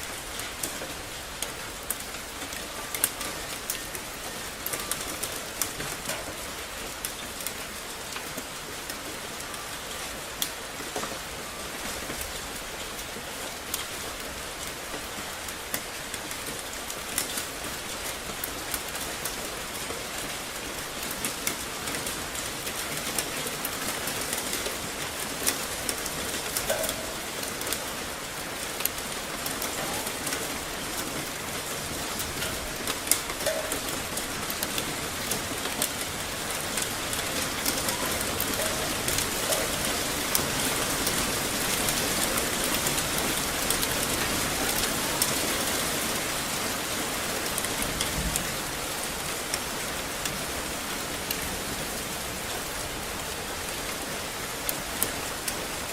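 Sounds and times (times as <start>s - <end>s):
rain on hard surfaces: 0.0s - 55.9s.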